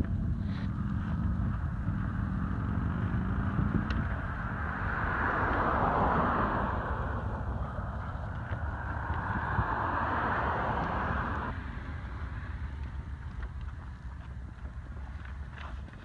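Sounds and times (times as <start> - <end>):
vehicle engine passing: 0.0 - 16.0
wind rumbling on microphone: 0.0 - 16.0.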